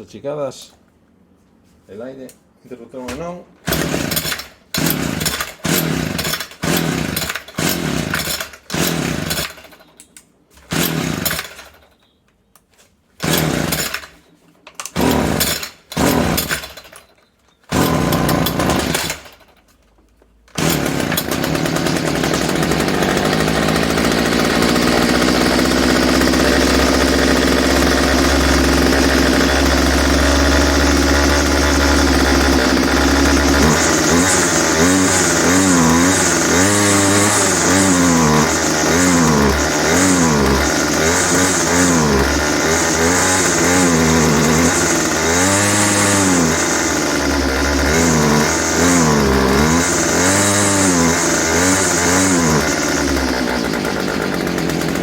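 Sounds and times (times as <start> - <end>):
recoil starter pulls: 3.0 - 12.0, 13.2 - 55.0
string trimmer engine running: 3.7 - 9.8, 10.7 - 11.8, 13.2 - 14.2, 14.8 - 17.0, 17.7 - 19.6, 20.5 - 55.0.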